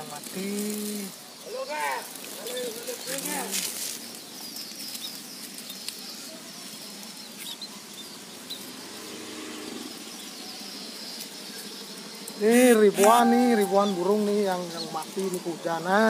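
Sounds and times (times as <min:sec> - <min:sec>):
outdoor background noise: 0:00.0 - 0:16.0
faint bird chirps: 0:01.0 - 0:15.2.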